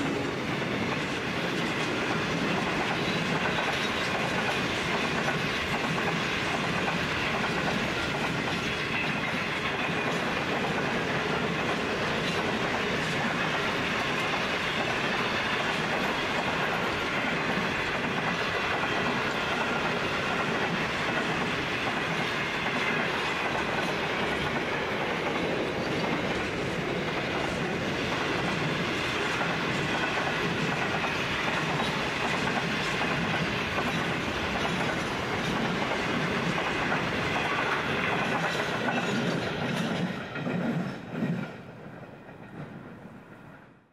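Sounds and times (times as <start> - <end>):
wheels clacking on rails: 0.0 - 43.6
freight train rumbling past: 0.0 - 43.9.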